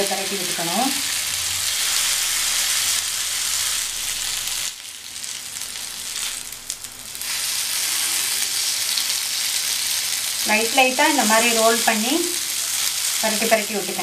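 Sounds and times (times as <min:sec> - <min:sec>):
oil sizzling in a grill pan: 0:00.0 - 0:14.0.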